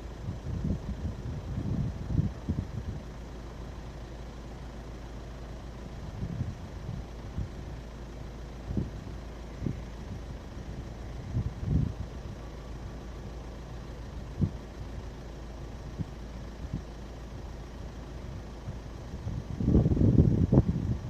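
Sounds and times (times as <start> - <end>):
distant turboprop airliner rumble: 0.0 - 21.0.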